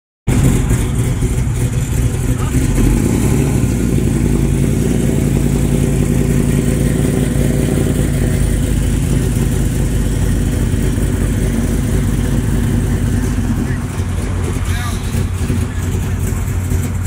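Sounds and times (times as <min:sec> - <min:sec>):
car engine rumbling: 0:00.3 - 0:17.0.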